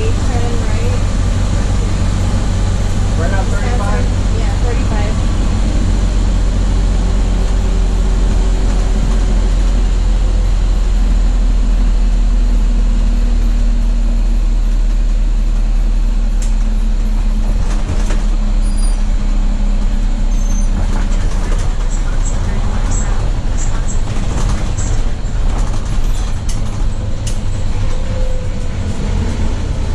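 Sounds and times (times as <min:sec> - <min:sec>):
bus engine drone: 0:00.0 - 0:29.9
road and wind noise: 0:00.0 - 0:29.9.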